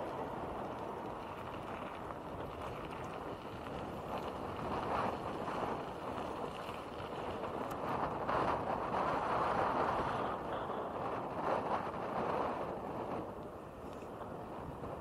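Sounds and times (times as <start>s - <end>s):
tyres rolling on rough path: 0.0s - 15.0s
wind rushing over microphone: 0.0s - 15.0s.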